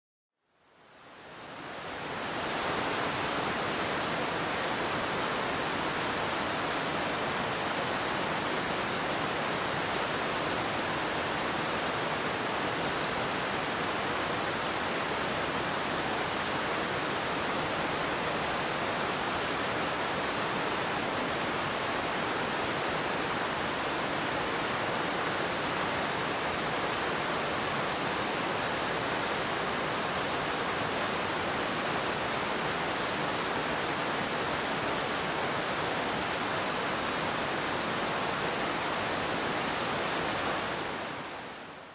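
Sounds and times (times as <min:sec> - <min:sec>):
waterfall rushing into pool: 0:01.1 - 0:41.9.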